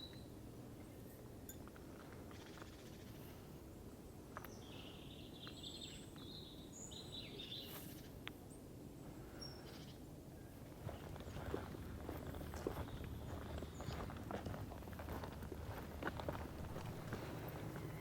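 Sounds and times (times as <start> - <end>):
low outdoor background: 0.0 - 18.0.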